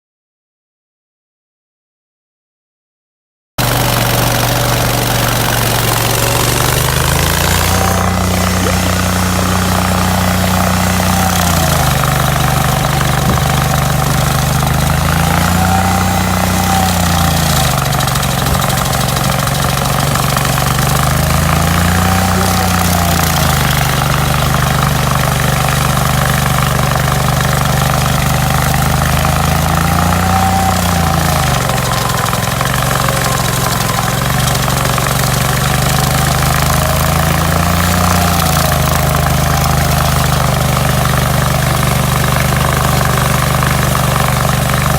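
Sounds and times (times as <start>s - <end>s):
stump grinder engine grinding: 3.6s - 44.9s.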